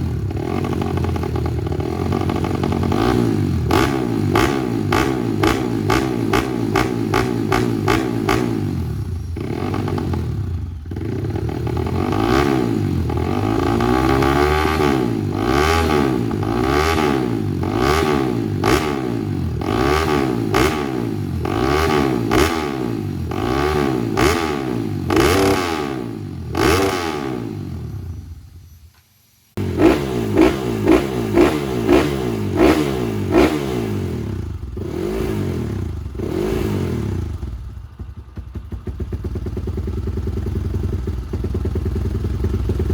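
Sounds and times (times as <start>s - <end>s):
motorcycle engine revving: 0.0s - 28.5s, 29.6s - 42.9s.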